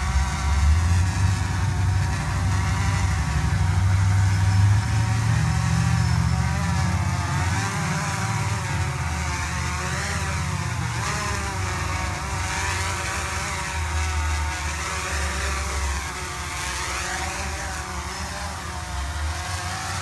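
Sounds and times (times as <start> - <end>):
grass blower motor: 0.0 - 20.0.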